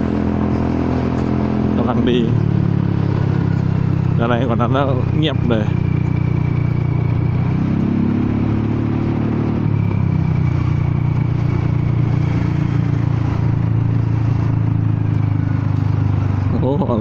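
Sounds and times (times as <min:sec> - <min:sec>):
scooter engine running loud: 0:00.0 - 0:17.0.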